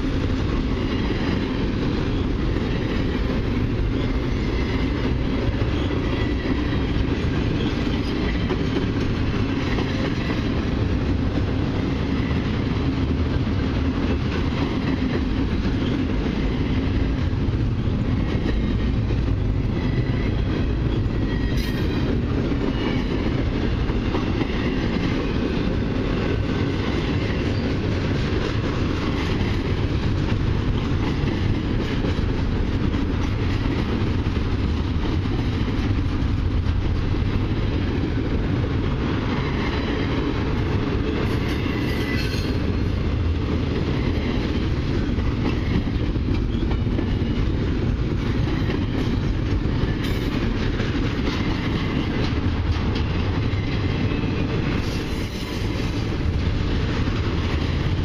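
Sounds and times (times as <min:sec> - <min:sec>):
steel wheels on rails: 0:00.0 - 0:58.0.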